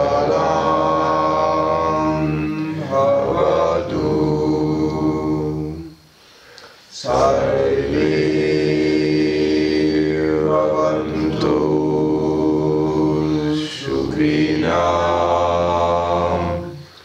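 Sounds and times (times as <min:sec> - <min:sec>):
chanted mantra: 0:00.0 - 0:06.1, 0:06.9 - 0:17.0.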